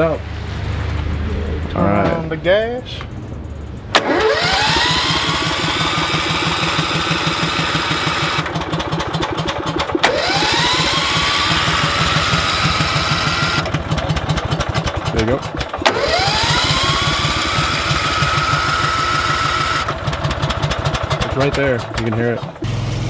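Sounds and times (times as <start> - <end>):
engine turning over in chugs: 3.2 - 23.0
electric starter whining: 3.7 - 23.0.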